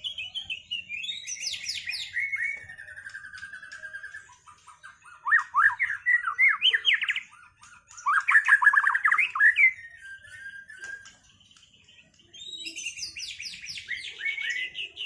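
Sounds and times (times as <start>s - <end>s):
bird singing chattering notes: 0.0s - 15.0s.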